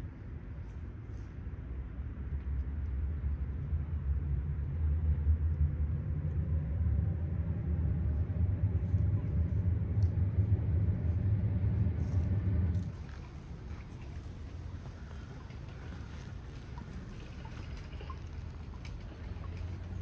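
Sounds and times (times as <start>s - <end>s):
low rumble: 3.1s - 20.0s.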